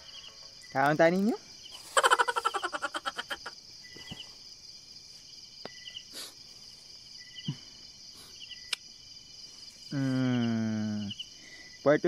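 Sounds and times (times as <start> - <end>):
crickets chirping: 0.0 - 12.0
insect drone: 0.0 - 12.0.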